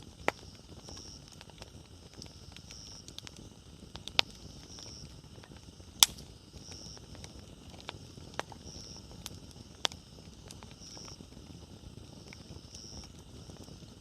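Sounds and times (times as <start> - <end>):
campfire crackling: 0.0 - 14.0
sharp pops from fire: 0.0 - 14.0.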